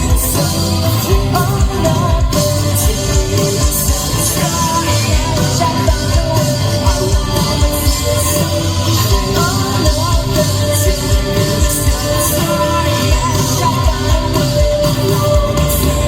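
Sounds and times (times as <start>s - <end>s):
drums: 0.0s - 16.0s
person singing lead vocal: 0.0s - 16.0s
punk rock band playing live: 0.0s - 16.0s.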